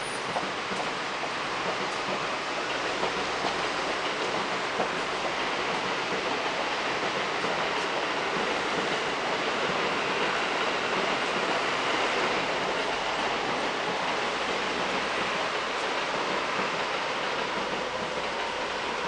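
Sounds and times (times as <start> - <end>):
town traffic rushing: 0.0 - 19.0.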